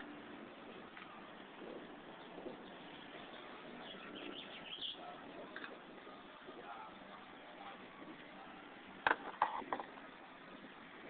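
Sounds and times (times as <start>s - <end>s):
low steady background hiss: 0.0s - 11.0s.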